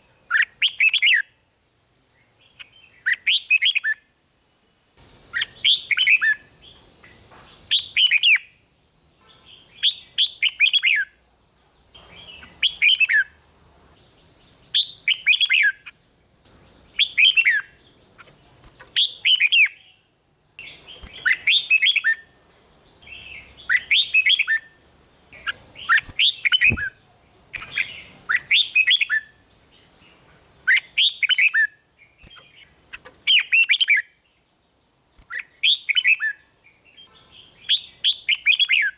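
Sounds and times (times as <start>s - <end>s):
bird singing: 0.0s - 1.4s, 2.1s - 4.2s, 5.0s - 11.2s, 11.8s - 38.9s.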